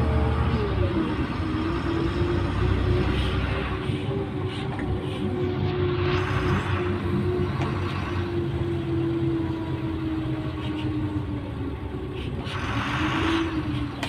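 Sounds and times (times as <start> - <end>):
bus engine rumble: 0.0 - 14.0
engine whine: 0.0 - 14.0.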